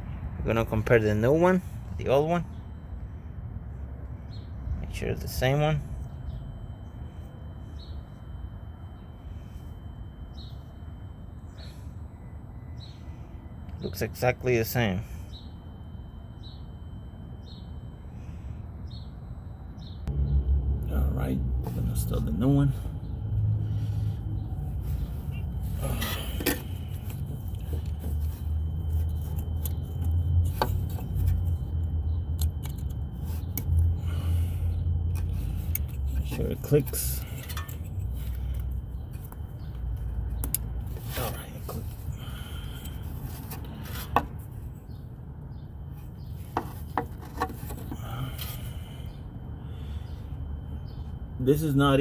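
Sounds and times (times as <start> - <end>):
steady low rumble: 0.0 - 12.4, 15.0 - 51.5.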